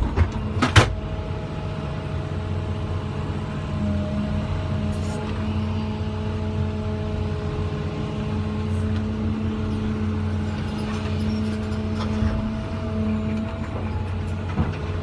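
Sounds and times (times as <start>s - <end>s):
excavator diesel engine humming: 0.0s - 15.0s
steady engine whine: 0.0s - 15.0s.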